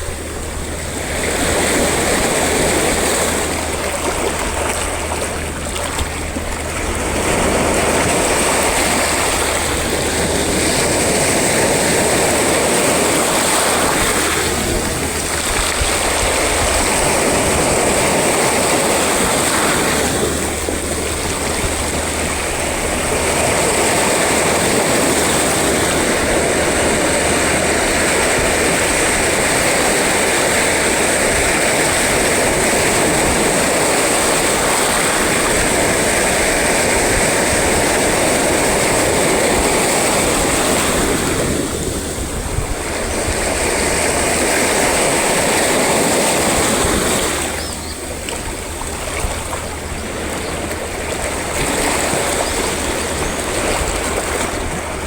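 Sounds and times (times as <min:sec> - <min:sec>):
sea surf roaring: 0:00.0 - 0:55.0.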